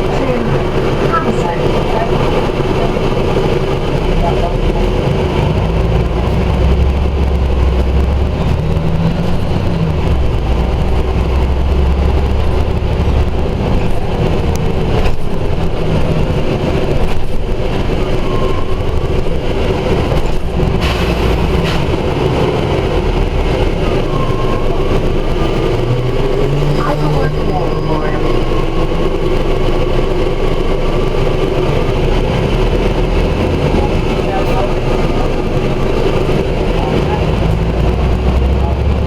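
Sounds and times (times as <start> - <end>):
bus diesel engine rumble: 0.0 - 39.0.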